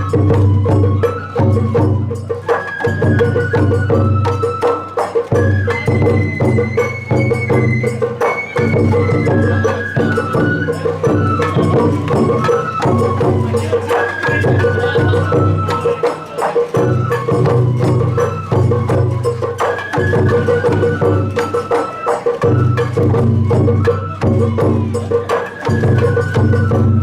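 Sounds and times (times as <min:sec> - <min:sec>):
bamboo flute melody: 0:00.0 - 0:27.0
drums and struck percussion: 0:00.0 - 0:27.0.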